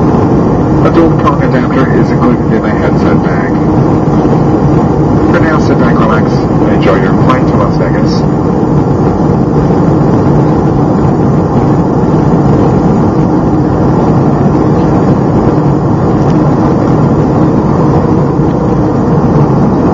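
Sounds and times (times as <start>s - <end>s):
jet cabin engine rumble: 0.0s - 19.9s.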